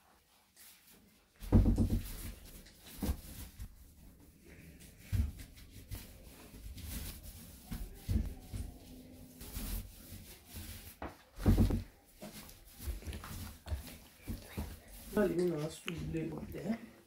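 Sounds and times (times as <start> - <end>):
paint roller rubbing: 0.0 - 16.4.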